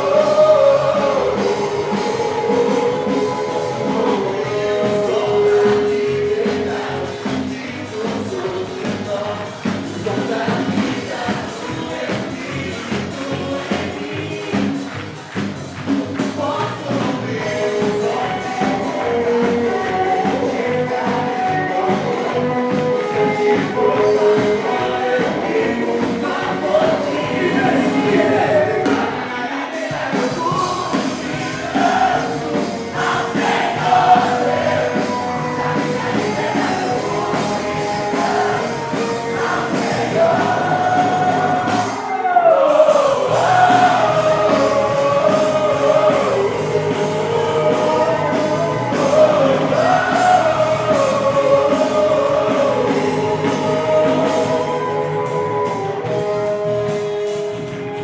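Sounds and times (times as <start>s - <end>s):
person singing: 0.0s - 15.0s, 16.2s - 58.0s
worship band playing: 0.0s - 58.0s.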